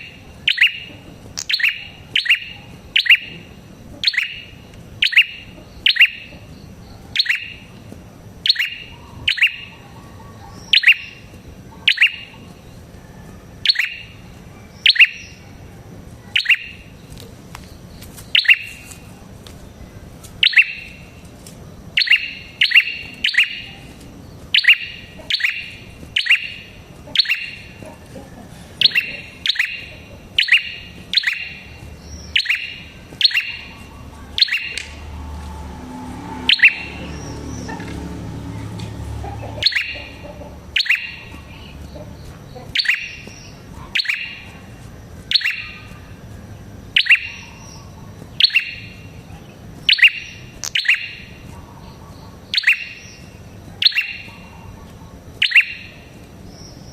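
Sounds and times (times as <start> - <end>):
bird chirping: 0.0 - 56.9.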